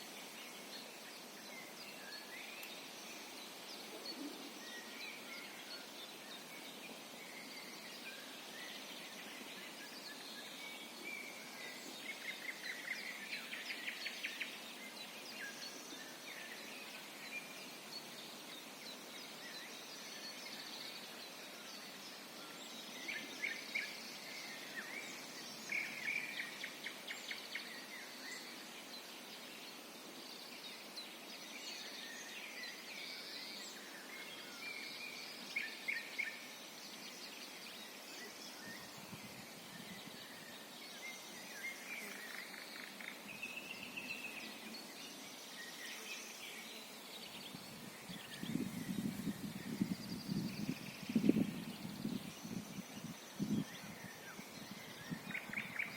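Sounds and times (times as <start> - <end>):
background hiss: 0.0 - 55.9
songbirds singing: 0.0 - 55.9.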